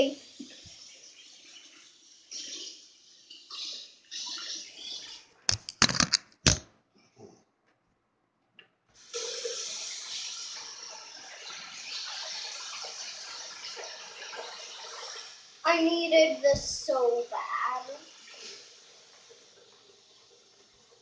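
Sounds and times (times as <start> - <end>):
tap water running and splashing: 0.0 - 5.2, 9.0 - 21.0.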